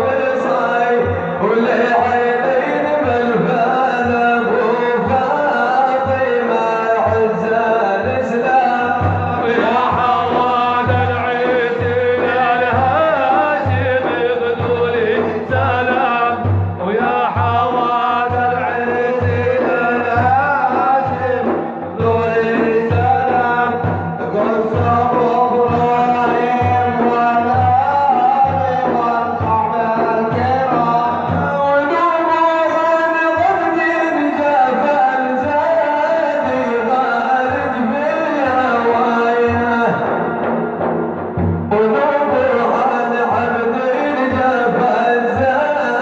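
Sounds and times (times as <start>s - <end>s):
man singing devotional song: 0.0s - 40.5s, 41.5s - 46.0s
low drum beat: 0.0s - 46.0s.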